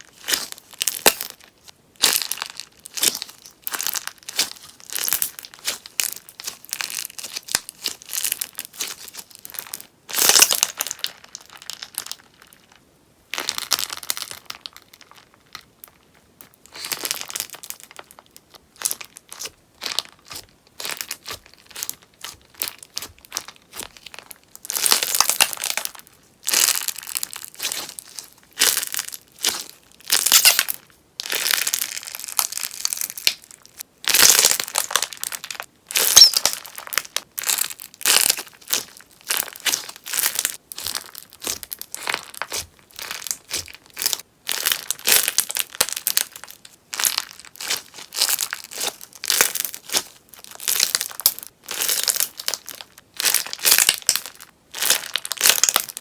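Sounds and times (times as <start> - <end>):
sponge slime crackling and popping: 0.0 - 56.0.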